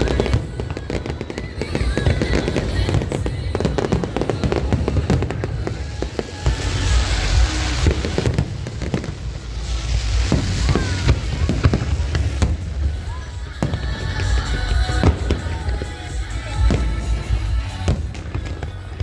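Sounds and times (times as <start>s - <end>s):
deep rolling booms: 0.0s - 19.0s
fireworks crackling hiss: 0.0s - 19.0s
fireworks sharp bangs: 0.0s - 19.0s.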